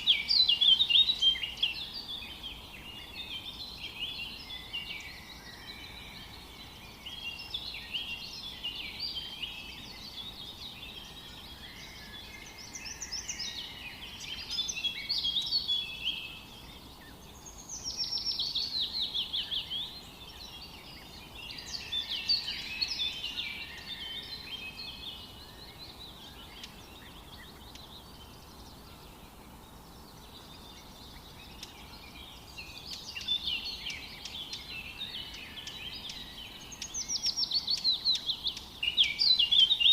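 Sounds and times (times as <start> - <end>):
forest ambience hiss: 0.0 - 39.9
songbirds singing and chirping: 0.0 - 39.9.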